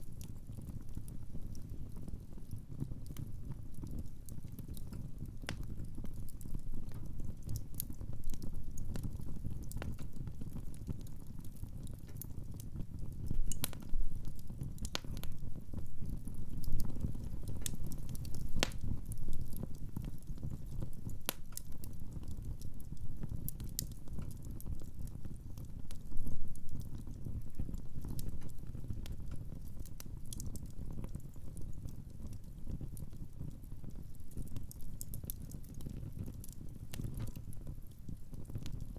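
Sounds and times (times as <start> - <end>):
fire low rumble: 0.0 - 38.9
wood fire crackling and popping: 0.0 - 38.9.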